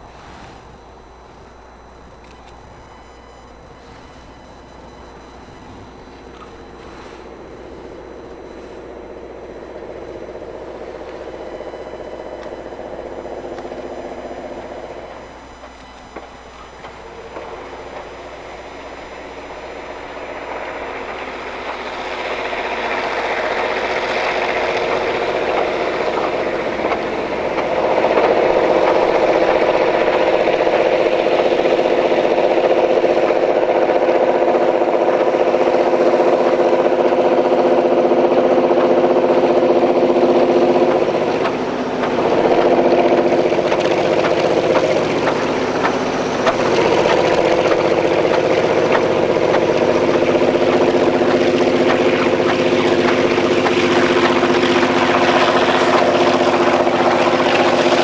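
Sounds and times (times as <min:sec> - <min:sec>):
diesel locomotive engines: 0:00.0 - 0:58.0.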